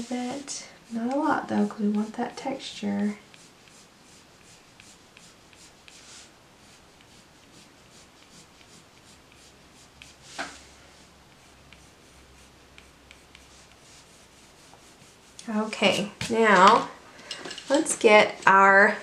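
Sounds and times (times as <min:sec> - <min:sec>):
pencil scratching on paper: 0:00.0 - 0:16.6.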